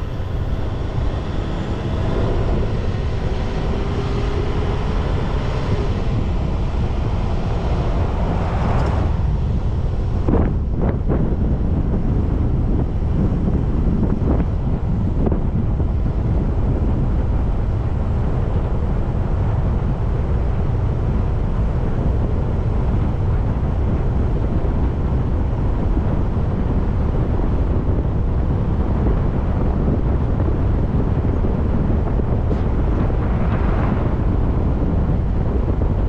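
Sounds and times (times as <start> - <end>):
car engine rumble: 0.0 - 36.0.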